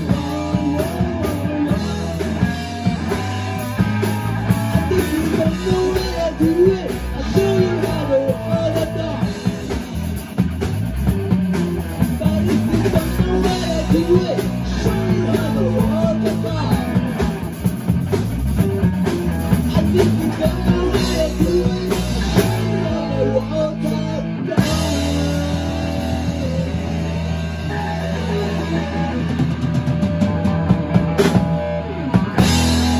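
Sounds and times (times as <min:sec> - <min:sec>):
person singing: 0:00.0 - 0:10.4, 0:12.0 - 0:17.5, 0:19.5 - 0:32.9
drum kit: 0:00.0 - 0:32.9
electric bass: 0:00.0 - 0:32.9
electric guitars: 0:00.0 - 0:32.9.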